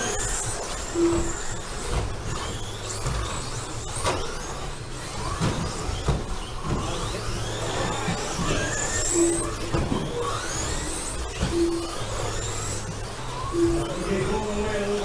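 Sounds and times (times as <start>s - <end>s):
rc truck motors whining: 0.0s - 15.0s.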